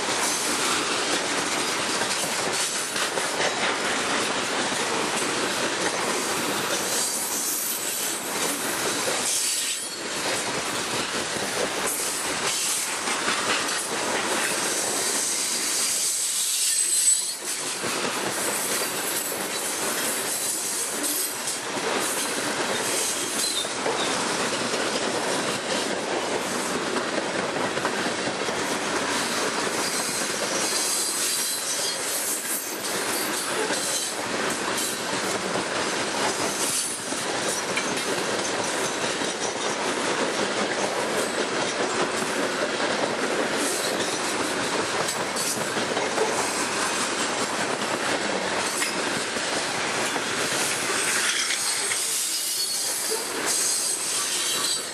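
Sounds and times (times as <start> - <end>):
steel wheels rushing on rail: 0.0 - 54.9.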